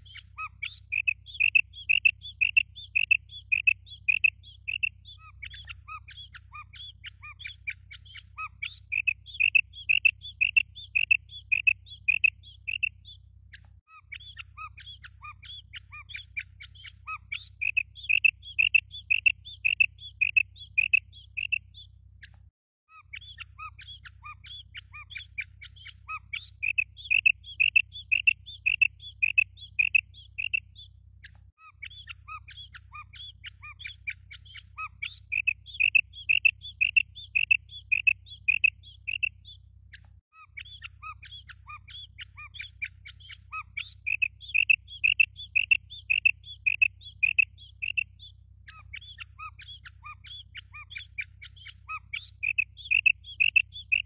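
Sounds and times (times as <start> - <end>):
quail calling krik notes: 0.0 - 13.2, 13.9 - 21.8, 22.9 - 30.9, 31.6 - 39.6, 40.4 - 54.0
low steady hum: 0.0 - 22.4, 23.1 - 54.0.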